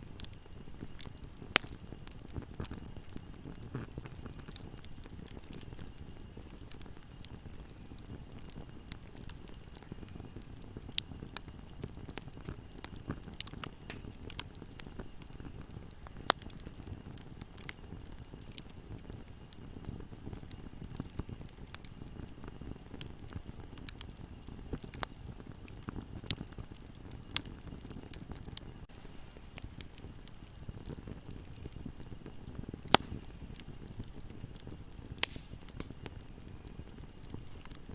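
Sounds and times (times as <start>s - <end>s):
fire rumbling: 0.0s - 37.9s
wood crackling and popping: 0.0s - 37.9s.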